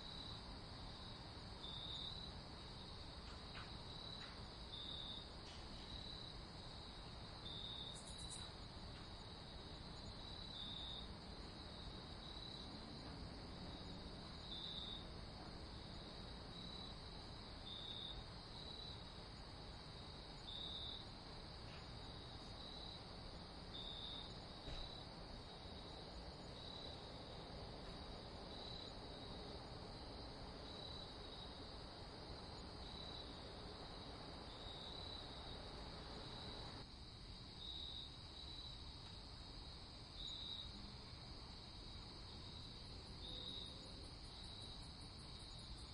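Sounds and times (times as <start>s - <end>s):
crickets chirping: 0.0s - 45.9s
faint steady hiss: 0.0s - 45.9s.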